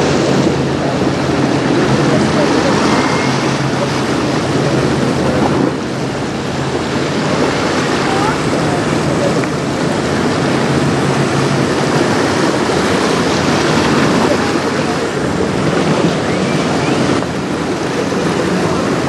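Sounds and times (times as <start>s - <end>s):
waves splashing: 0.0s - 19.0s
wind buffeting microphone: 0.0s - 19.0s.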